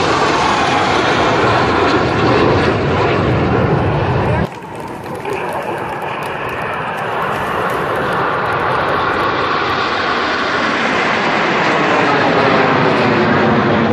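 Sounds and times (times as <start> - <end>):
jet engines passing overhead: 0.0 - 13.9.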